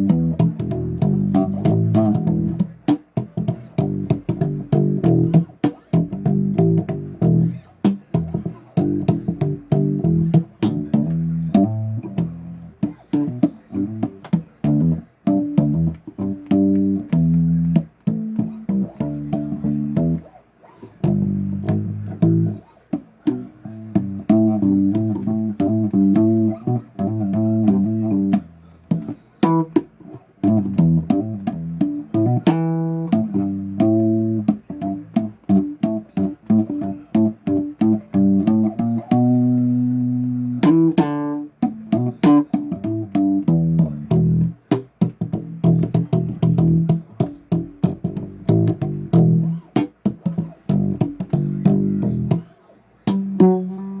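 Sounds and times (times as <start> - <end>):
bass guitar riffing: 0.0 - 54.0
fingers clicking on strings: 0.0 - 54.0.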